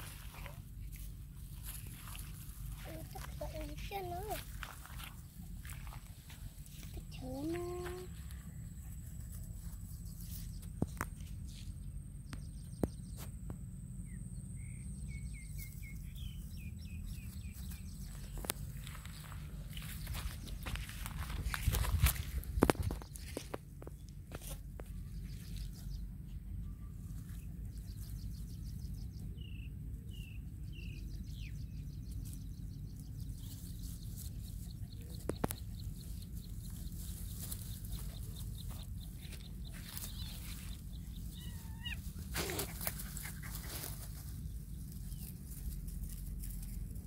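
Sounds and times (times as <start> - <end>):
rustles in grass and brush: 0.0 - 12.1, 15.4 - 47.0.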